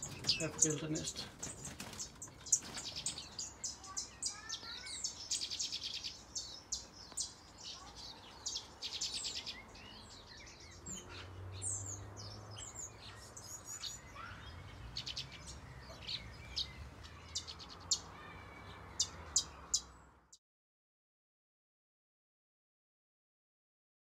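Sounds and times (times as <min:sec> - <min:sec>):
small birds chirping and trilling: 0:00.0 - 0:20.4.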